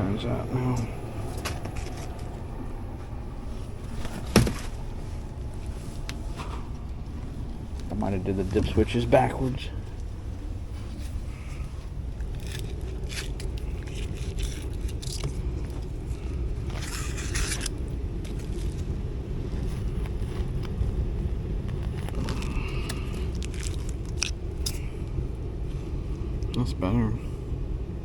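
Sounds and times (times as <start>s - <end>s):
blower rushing air: 0.0s - 28.0s.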